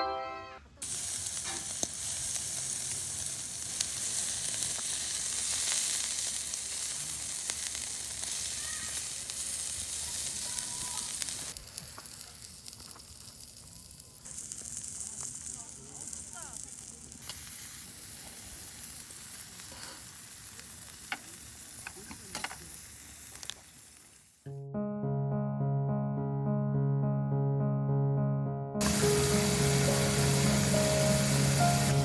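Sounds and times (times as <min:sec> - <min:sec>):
food sizzling in hot fat: 0:00.8 - 0:24.5, 0:28.8 - 0:32.0.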